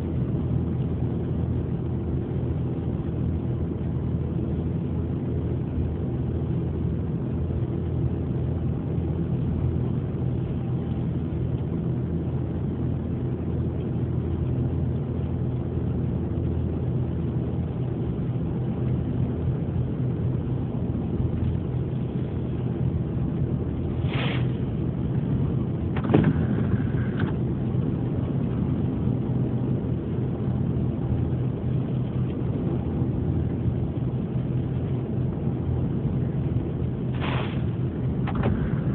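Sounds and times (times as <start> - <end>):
ferry engines droning: 0.0 - 38.9.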